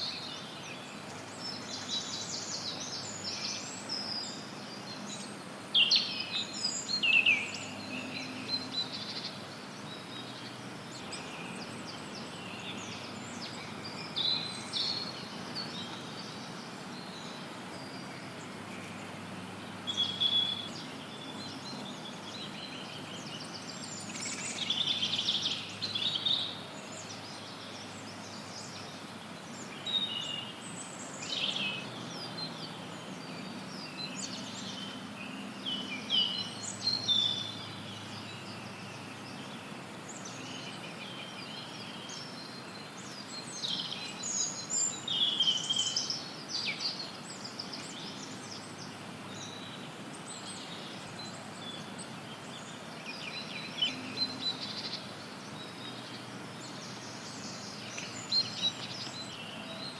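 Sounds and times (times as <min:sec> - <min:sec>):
songbirds singing and chirping: 0:00.0 - 0:59.9
white noise hiss: 0:00.0 - 0:59.9.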